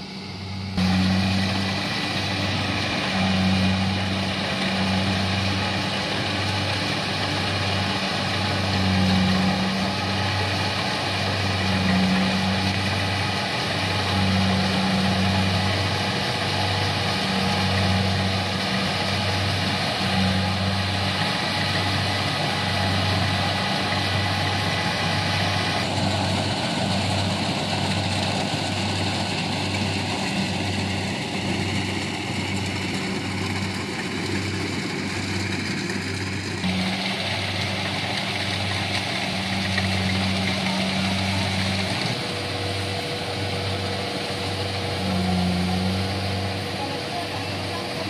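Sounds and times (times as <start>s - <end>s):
combine harvester running: 0.0s - 48.0s.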